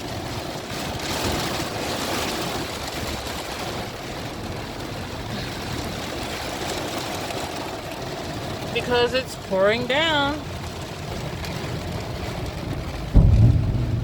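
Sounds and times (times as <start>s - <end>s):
heavy rain on a van: 0.0s - 14.0s.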